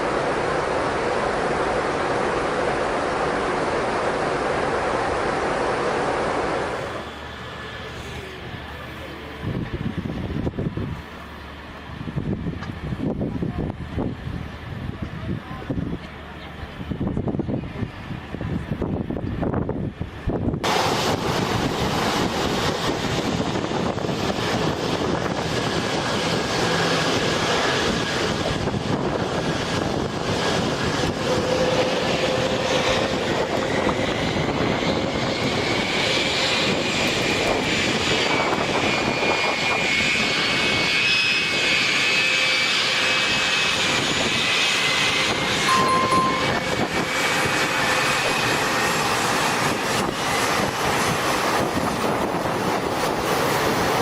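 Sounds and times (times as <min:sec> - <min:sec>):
high engine whine: 0:00.0 - 0:54.0
jet engines running: 0:00.0 - 0:54.0.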